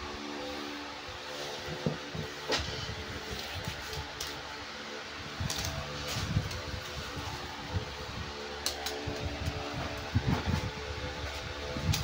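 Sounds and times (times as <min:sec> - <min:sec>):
fan hum: 0:00.0 - 0:12.0.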